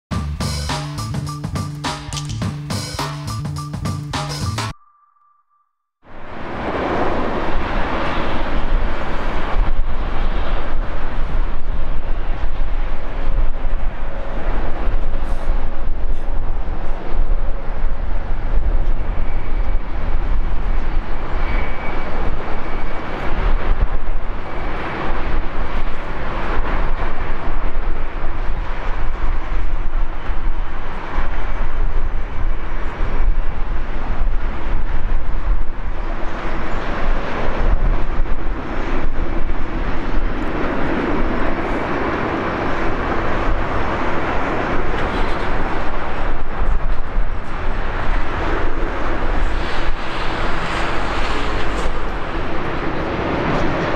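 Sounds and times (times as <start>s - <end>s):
jet engines rumbling with whine: 6.1s - 53.9s.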